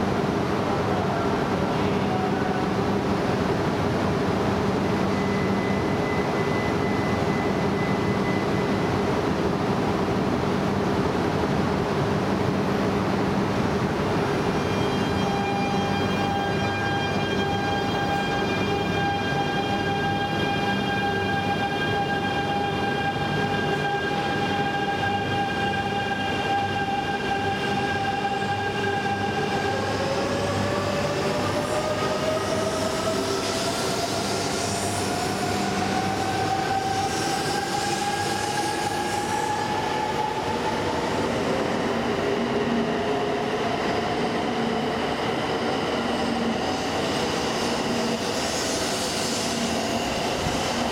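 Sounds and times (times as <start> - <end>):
hiss of train running past: 0.0 - 50.9.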